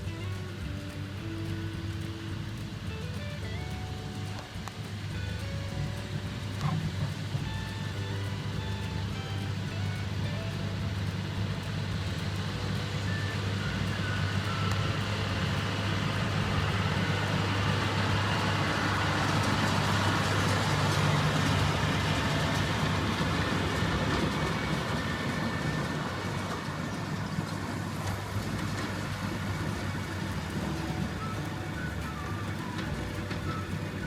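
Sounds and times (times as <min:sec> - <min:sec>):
baler mechanical clatter: 0:00.0 - 0:34.0
tractor engine running: 0:00.0 - 0:34.0.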